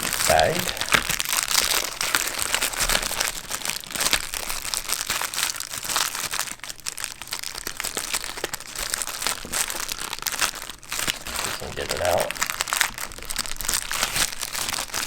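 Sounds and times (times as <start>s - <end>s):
packaging bag crinkling: 0.0s - 15.0s.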